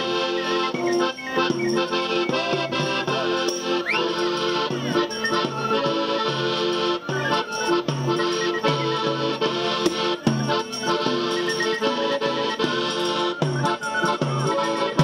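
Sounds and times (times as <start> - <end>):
accordion folk dance music: 0.0 - 15.0.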